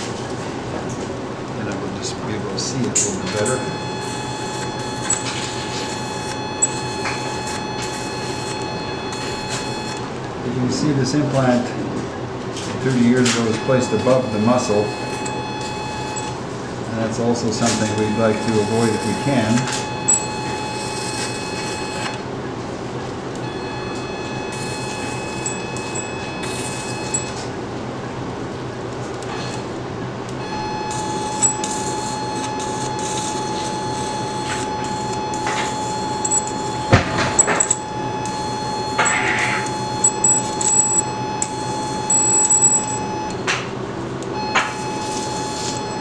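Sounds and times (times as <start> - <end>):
electrosurgical generator tone: 0.0 - 46.0
operating room hum: 0.0 - 46.0.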